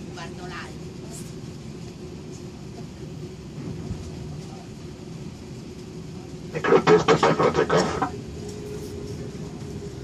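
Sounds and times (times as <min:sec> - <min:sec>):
airliner cabin hum: 0:00.0 - 0:10.0.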